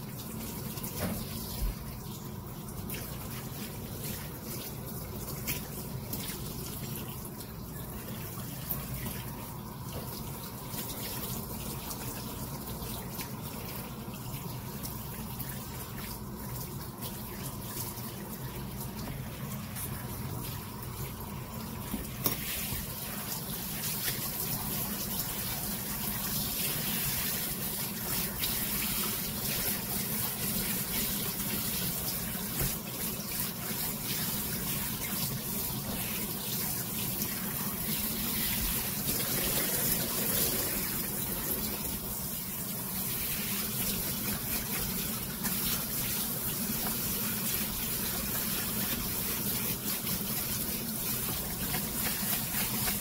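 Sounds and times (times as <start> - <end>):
faucet spray water splashing: 0.0 - 53.0.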